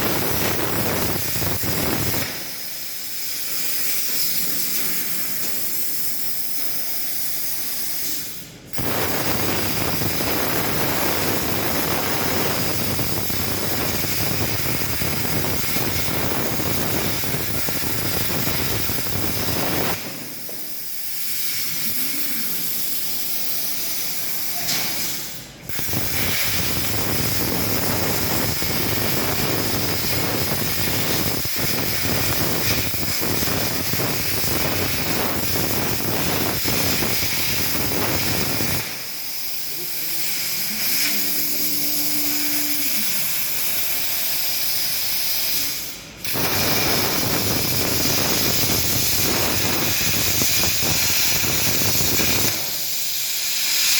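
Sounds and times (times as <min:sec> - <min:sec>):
plasma torch hissing: 0:00.0 - 0:53.9.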